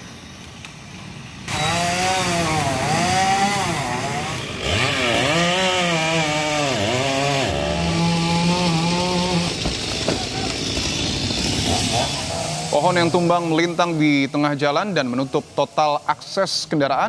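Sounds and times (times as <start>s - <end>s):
chainsaw cutting wood: 1.4s - 15.6s.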